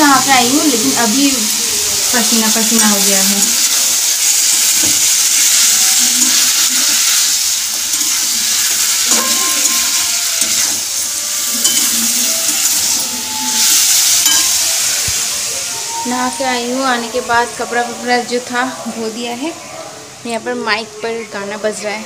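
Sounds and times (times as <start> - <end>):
food sizzling in hot oil: 0.0 - 19.5.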